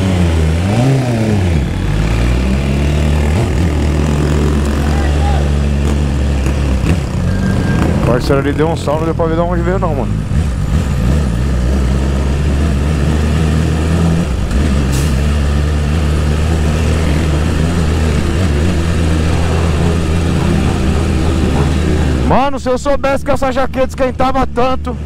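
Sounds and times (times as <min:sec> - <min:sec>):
motorcycle engine cruising: 0:00.0 - 0:22.7.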